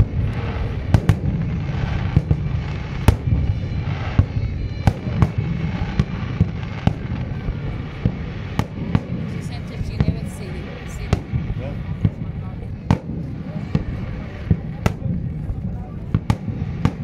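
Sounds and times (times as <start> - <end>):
low rumble of bursts: 0.0 - 17.0.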